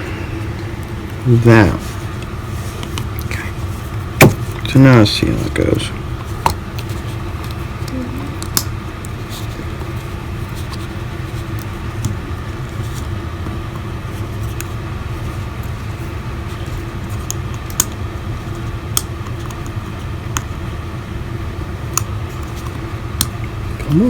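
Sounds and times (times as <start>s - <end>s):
faint hum: 0.0s - 24.0s
low rumbling background noise: 0.0s - 24.0s.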